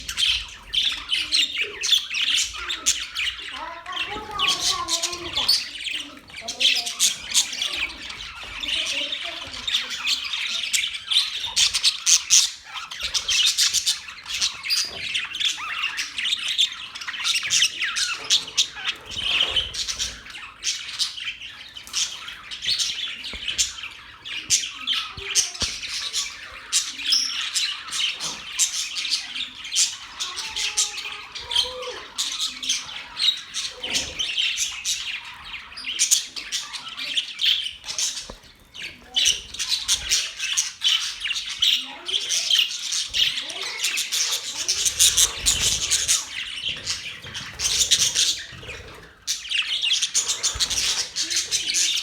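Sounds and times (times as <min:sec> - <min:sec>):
budgerigars chirping and chattering: 0:00.0 - 0:52.0.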